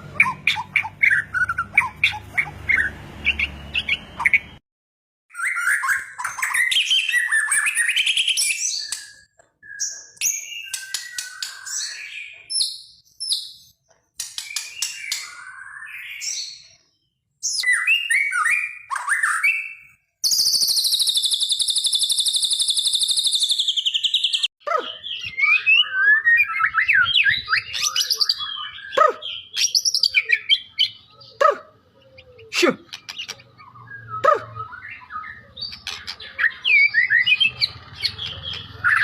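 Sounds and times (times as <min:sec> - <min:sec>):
bird singing: 0:00.0 - 0:04.6, 0:05.3 - 0:39.0.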